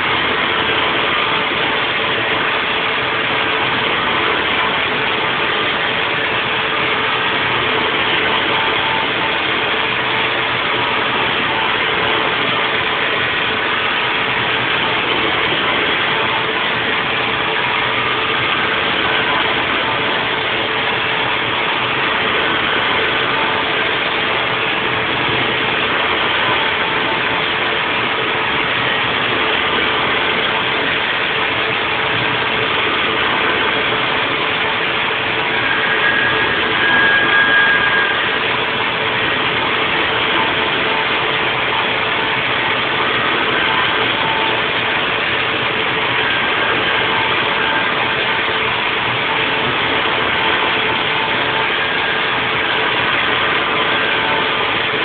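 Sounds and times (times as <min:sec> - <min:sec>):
milling machine running: 0:00.0 - 0:55.0.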